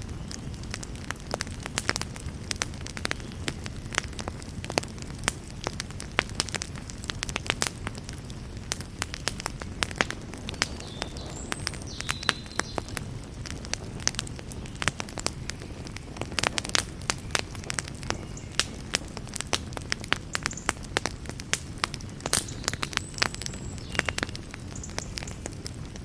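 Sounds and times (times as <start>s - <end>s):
campfire crackles and pops: 0.0s - 26.0s
low rush of flame: 0.0s - 26.0s.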